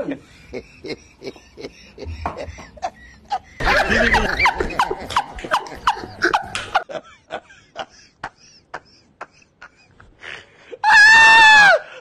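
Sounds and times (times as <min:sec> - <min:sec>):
hearty laughter: 0:00.0 - 0:10.8.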